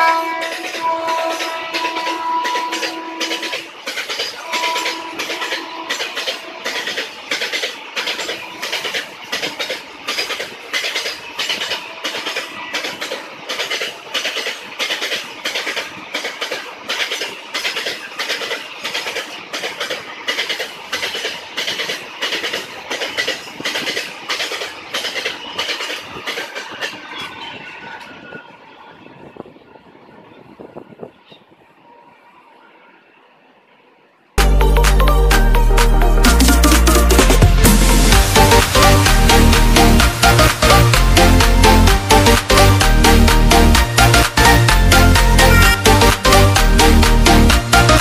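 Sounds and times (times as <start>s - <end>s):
train wheels clattering over rail joints: 0.0s - 31.5s, 37.3s - 48.0s.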